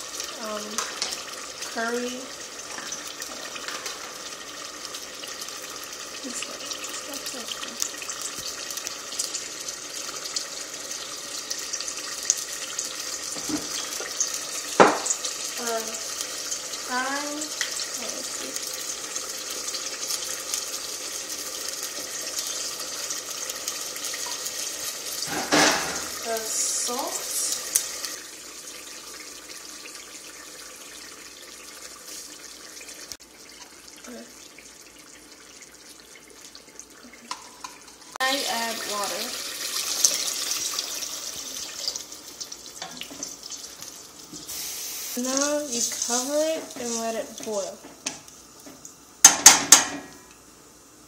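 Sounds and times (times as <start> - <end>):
food sizzling in oil: 0.0 - 51.0
sauce bubbling in a pot: 0.0 - 51.0.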